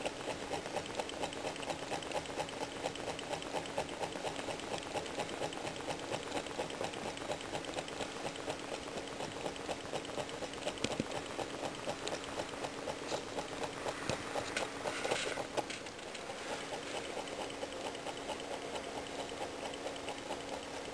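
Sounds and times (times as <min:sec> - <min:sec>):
small engine ticking: 0:00.0 - 0:20.9.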